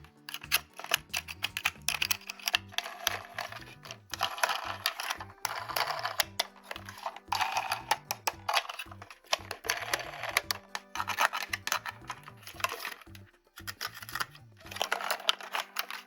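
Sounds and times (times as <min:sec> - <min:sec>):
soft background music: 0:00.0 - 0:16.0
toy parts clicking: 0:00.0 - 0:16.0.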